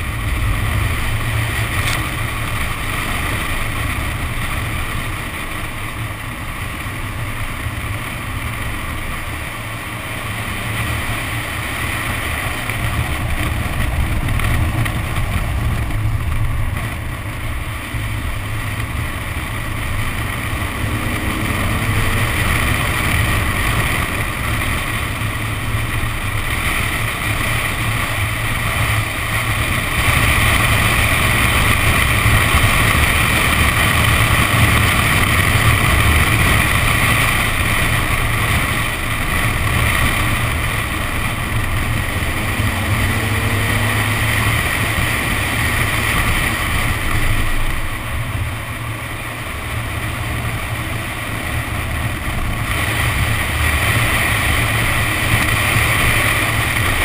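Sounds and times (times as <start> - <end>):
car engine: 0.0 - 57.0.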